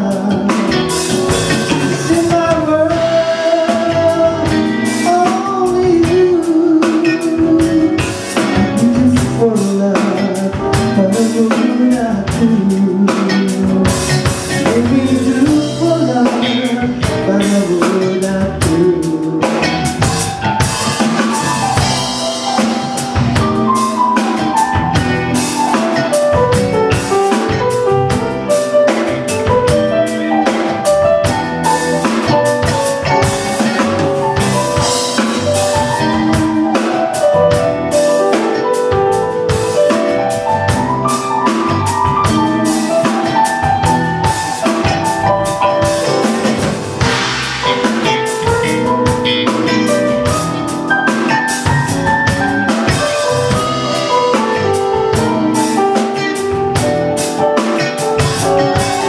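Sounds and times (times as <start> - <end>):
drum kit beat: 0.0 - 59.0
melodic instrumental lead: 0.0 - 59.0.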